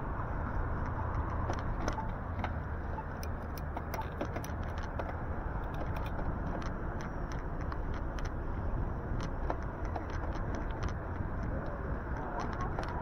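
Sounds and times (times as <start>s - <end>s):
wind and road noise rumble: 0.0s - 13.0s
light irregular clicks: 0.7s - 13.0s.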